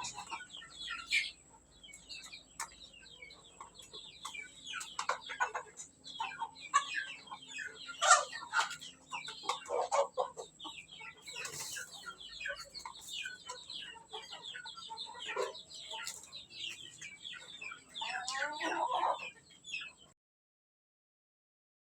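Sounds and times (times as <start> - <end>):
chickens clucking: 0.0 - 20.2.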